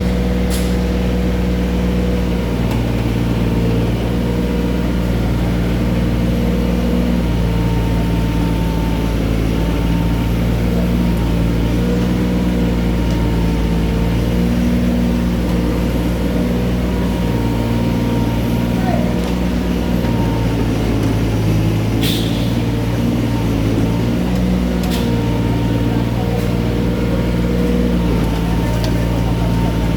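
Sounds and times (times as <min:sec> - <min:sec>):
diesel engine running steadily: 0:00.0 - 0:29.9.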